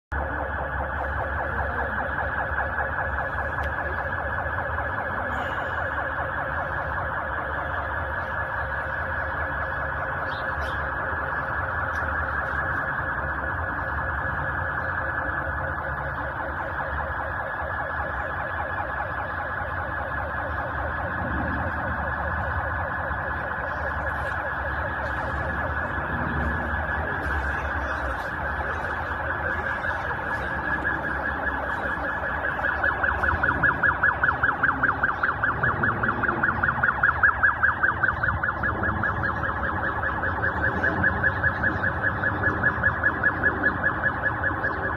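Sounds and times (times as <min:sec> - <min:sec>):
warbling siren: 0:00.0 - 0:44.9.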